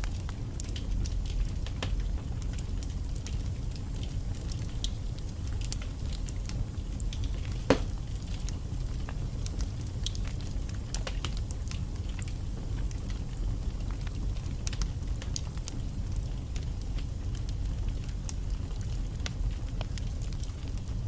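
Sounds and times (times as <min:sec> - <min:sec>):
fire flames rumbling: 0:00.0 - 0:21.0
wood fire crackles and pops: 0:00.0 - 0:21.0.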